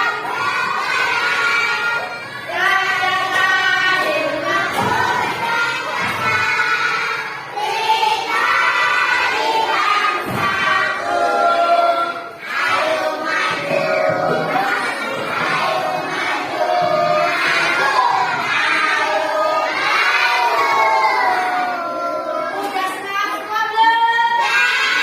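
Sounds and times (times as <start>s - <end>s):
children singing in chorus: 0.0s - 23.4s, 24.2s - 25.0s.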